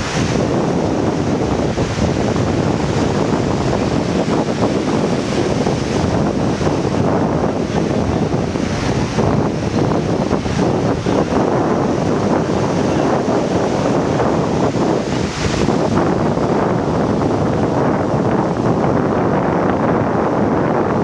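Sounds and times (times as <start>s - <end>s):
surf washing around rocks: 0.0s - 21.0s
wind buffeting the microphone: 0.0s - 21.0s.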